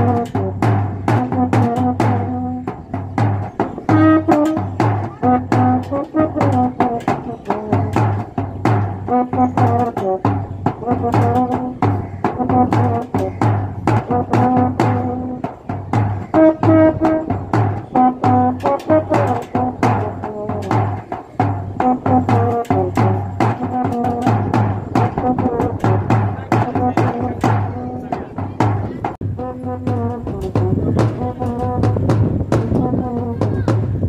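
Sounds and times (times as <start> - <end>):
euphonium melody: 0.0 - 33.6
side drum steady beat: 0.0 - 34.0.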